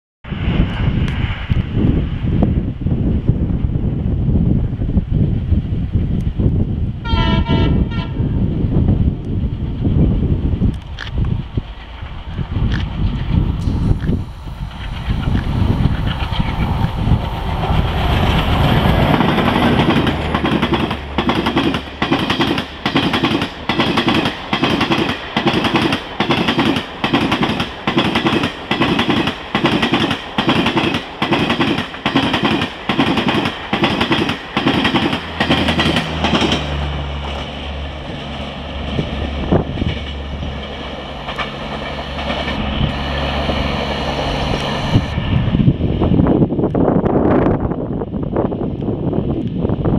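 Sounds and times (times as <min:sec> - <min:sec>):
steady train rumble: 0:00.2 - 0:49.9
train rushing past: 0:00.3 - 0:49.9.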